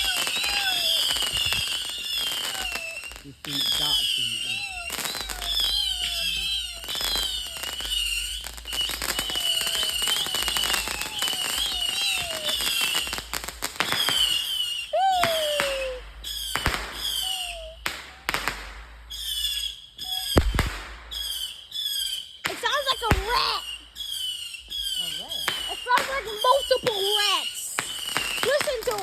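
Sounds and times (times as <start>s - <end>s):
whistle sweeping up and down: 0.0s - 18.4s, 19.1s - 29.0s
fireworks crackling pops: 0.0s - 29.0s
fireworks whistling: 0.0s - 29.0s.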